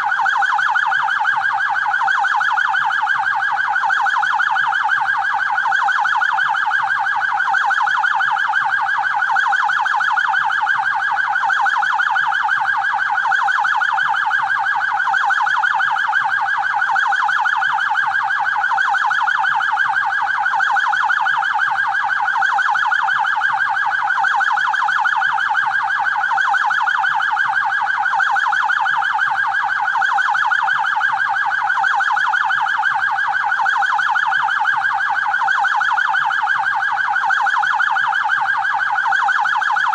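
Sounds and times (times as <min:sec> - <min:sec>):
police siren warbling: 0:00.0 - 0:39.9.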